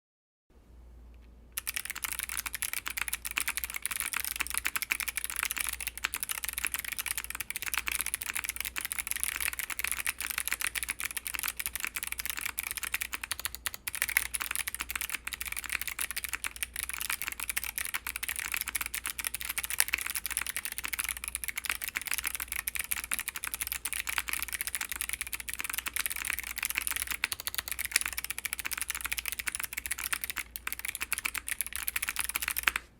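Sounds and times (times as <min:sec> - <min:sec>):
fast typing on mechanical keyboard: 0:01.6 - 0:32.9.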